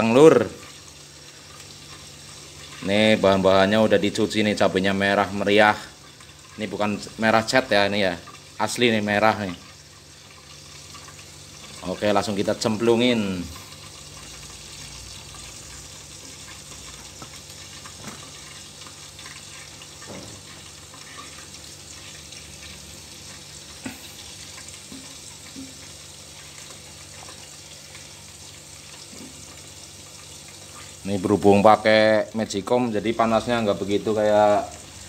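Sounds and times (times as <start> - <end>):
oil sizzling in a pot: 0.0 - 35.0.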